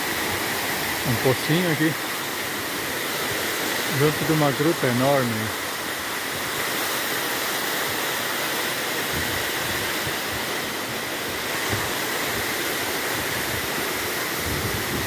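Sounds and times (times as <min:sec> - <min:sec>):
waterfall splashing into pool: 0:00.0 - 0:15.0.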